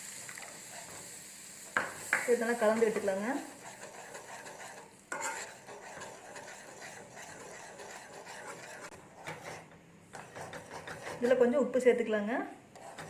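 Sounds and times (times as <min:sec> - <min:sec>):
utensil scraping sauce in a pan: 0:00.0 - 0:11.4, 0:12.7 - 0:13.0.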